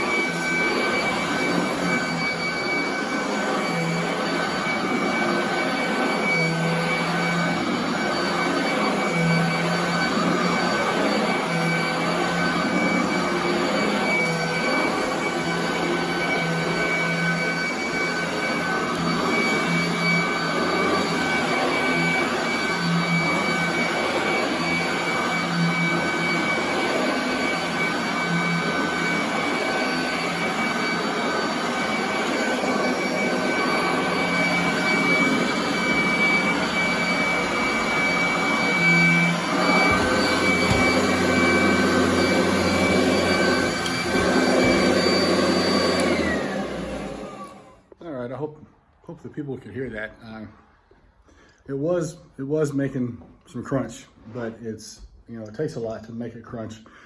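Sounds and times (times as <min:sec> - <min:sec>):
vacuum cleaner motor whine: 0:00.0 - 0:48.0.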